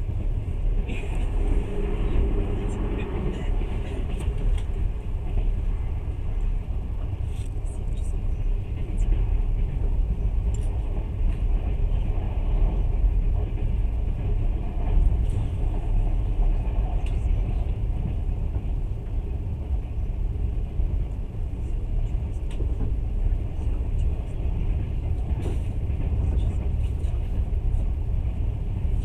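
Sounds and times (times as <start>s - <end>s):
train carriage rumble: 0.0s - 29.0s.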